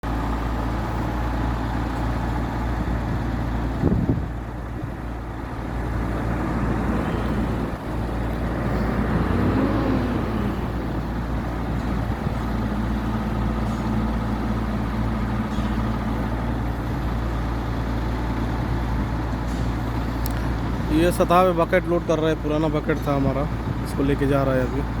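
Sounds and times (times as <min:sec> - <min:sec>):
forklift engine running: 0:00.0 - 0:25.0.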